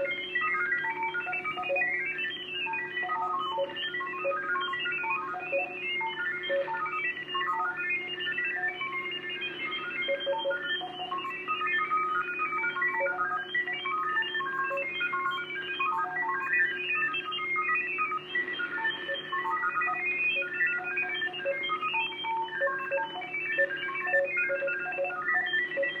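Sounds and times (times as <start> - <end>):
digital data beeps: 0.0 - 26.0.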